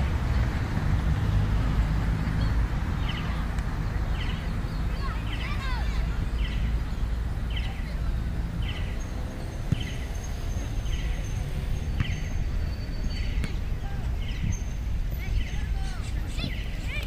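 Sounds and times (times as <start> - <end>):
bird chirping: 2.2 - 17.0.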